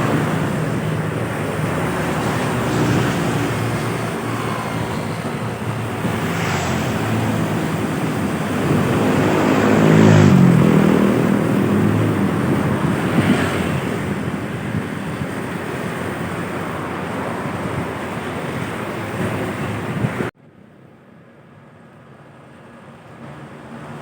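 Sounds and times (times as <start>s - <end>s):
heavy vehicle engine passing: 0.0s - 20.3s
tyre and wind rush: 0.0s - 20.3s
quiet road background: 0.0s - 24.0s.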